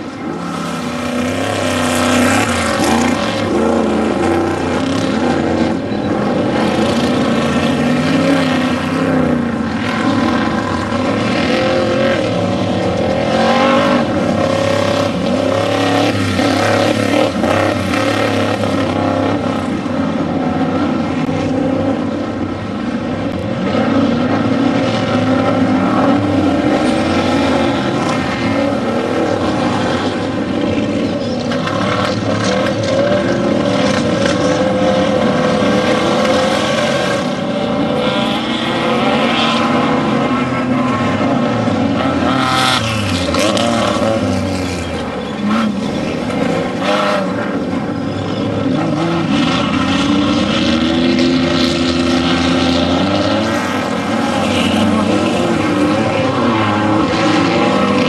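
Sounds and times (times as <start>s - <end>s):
race vehicle engines revving: 0.0s - 58.0s.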